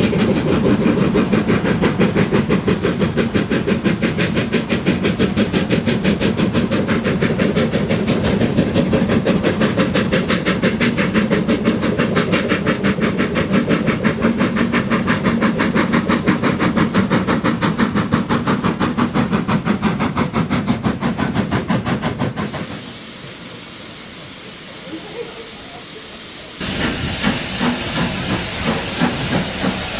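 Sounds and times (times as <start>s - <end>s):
steam hissing: 0.0s - 29.9s
steam locomotive exhaust beats: 0.0s - 29.9s.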